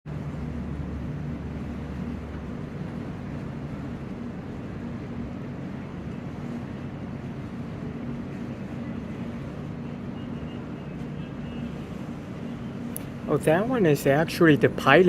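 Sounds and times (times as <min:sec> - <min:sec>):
marine engine drone: 0:00.1 - 0:15.0.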